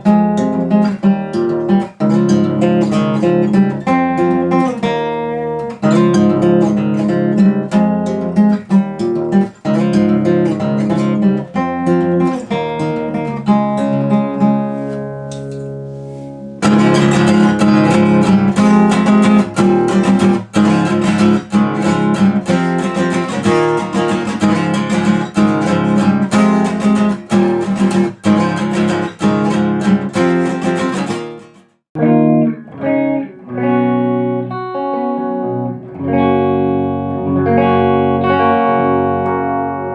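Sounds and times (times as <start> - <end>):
guitar picked and strummed: 0.0 - 39.9.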